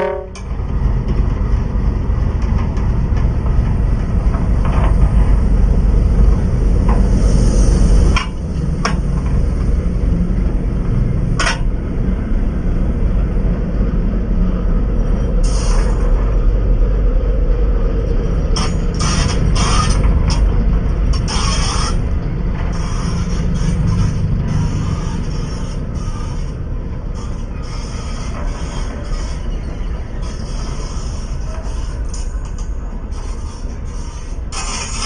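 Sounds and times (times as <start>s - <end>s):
train rumbling over track: 0.0s - 35.0s.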